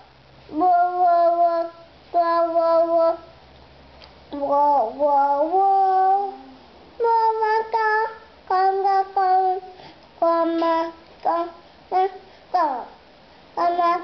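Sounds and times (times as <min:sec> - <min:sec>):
toddler singing: 0:00.5 - 0:03.3, 0:04.3 - 0:13.0, 0:13.6 - 0:14.0.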